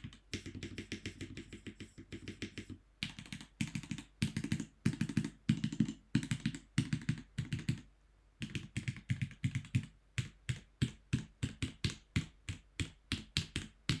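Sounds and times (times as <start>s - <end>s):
mechanical keyboard typing: 0.0s - 7.8s, 8.4s - 14.0s.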